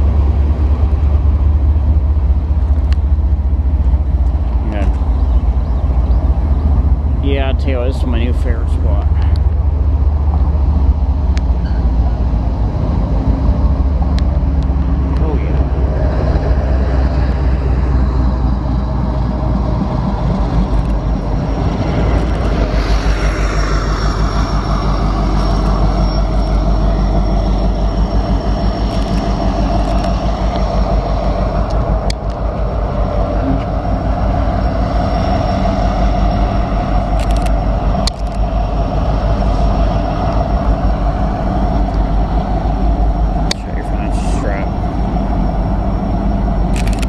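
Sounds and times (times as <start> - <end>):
diesel locomotive rumble: 0.0 - 47.0.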